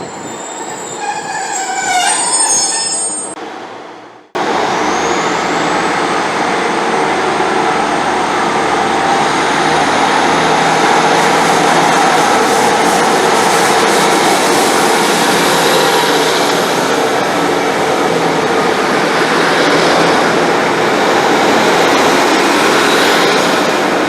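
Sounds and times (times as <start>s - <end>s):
train engine running: 0.0s - 24.0s.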